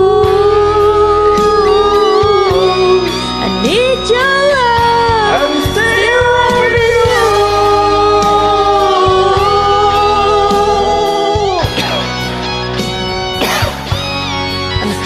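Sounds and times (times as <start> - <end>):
music backing track: 0.0 - 15.0
person singing karaoke: 0.0 - 15.0.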